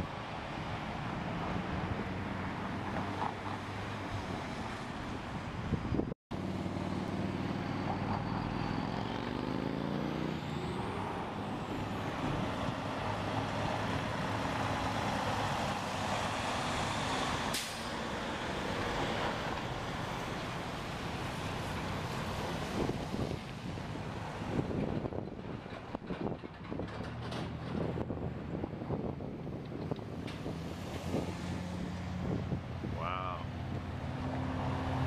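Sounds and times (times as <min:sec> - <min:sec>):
truck diesel engine: 0:05.9 - 0:35.0.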